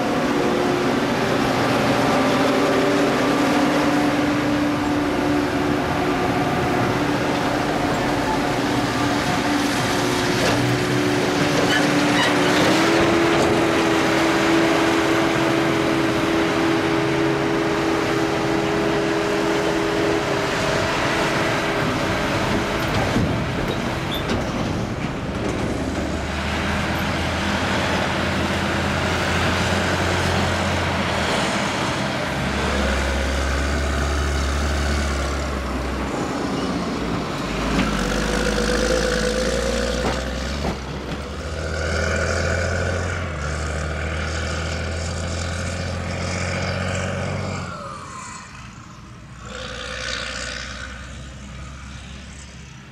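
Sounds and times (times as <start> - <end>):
tractors driving past: 0.0 - 52.9.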